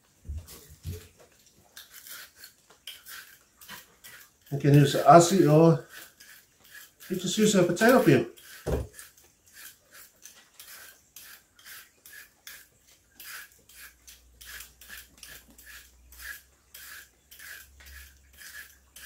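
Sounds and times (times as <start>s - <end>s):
peeler scraping vegetable skin: 0.5s - 19.0s.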